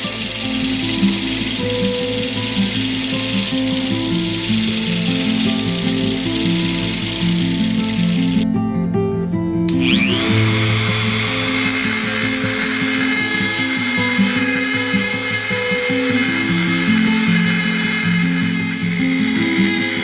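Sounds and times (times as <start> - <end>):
belt grinder whining: 0.0 - 8.5, 9.7 - 20.0
background music: 0.0 - 20.0.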